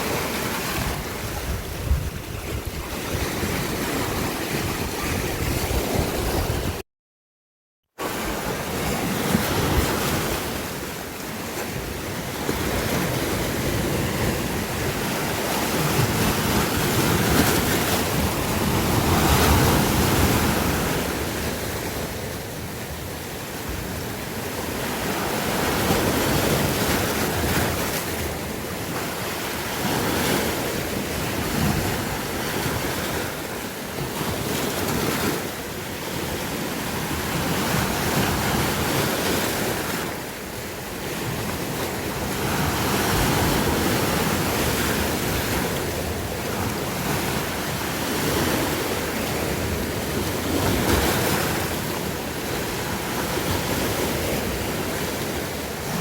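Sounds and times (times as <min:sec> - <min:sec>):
sea waves breaking on shore: 0:00.0 - 0:06.8, 0:08.0 - 0:56.0.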